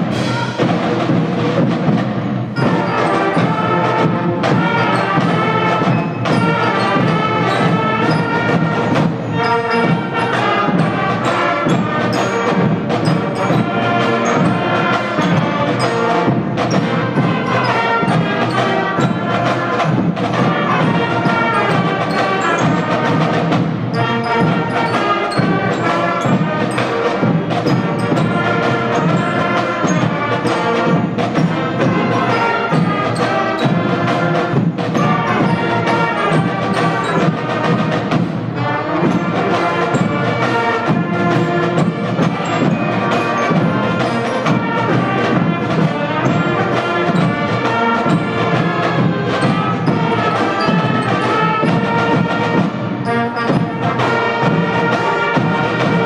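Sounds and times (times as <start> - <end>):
marching band playing: 0.0 - 56.0
snare and bass drums: 0.0 - 56.0.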